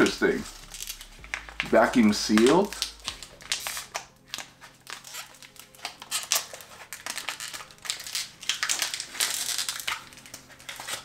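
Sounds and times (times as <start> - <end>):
foil pouch crinkling: 0.0 - 11.0.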